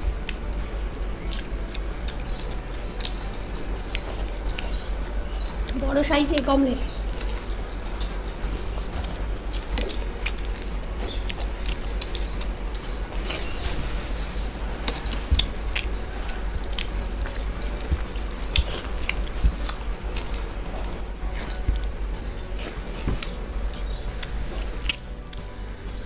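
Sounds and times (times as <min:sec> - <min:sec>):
fingers mixing food on steel plates: 0:00.0 - 0:26.0
low hum: 0:00.0 - 0:26.0
people chewing: 0:00.0 - 0:26.0.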